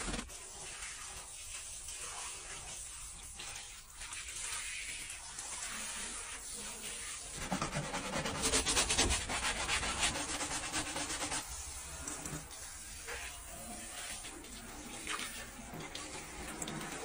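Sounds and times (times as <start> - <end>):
brush scrubbing soapy metal floor: 0.0 - 17.0.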